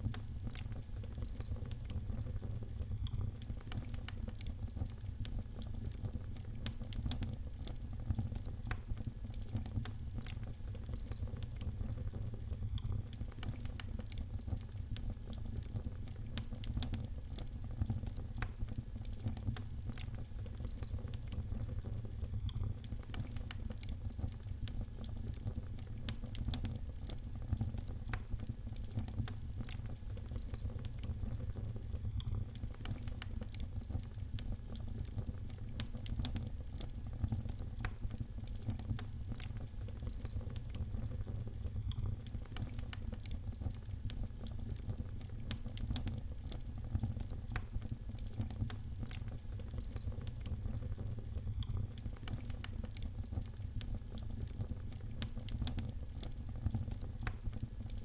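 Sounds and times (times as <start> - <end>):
low rumble of flames: 0.0 - 58.0
wood fire popping and snapping: 0.0 - 58.0.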